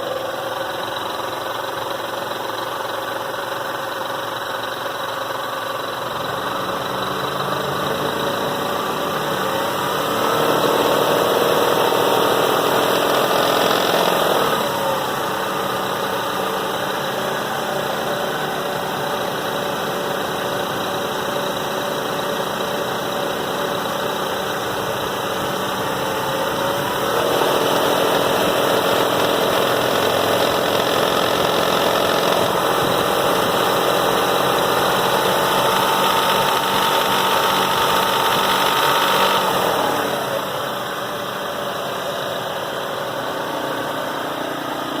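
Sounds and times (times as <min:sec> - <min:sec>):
car engine running with rattling: 0:00.0 - 0:45.0.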